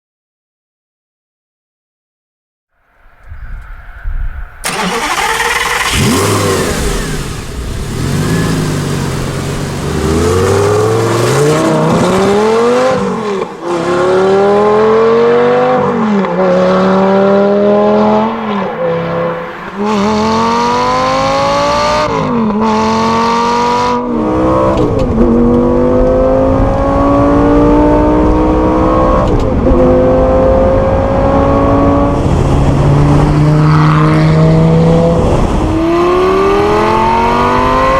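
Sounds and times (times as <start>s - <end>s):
sports car engine accelerating: 4.6s - 37.9s.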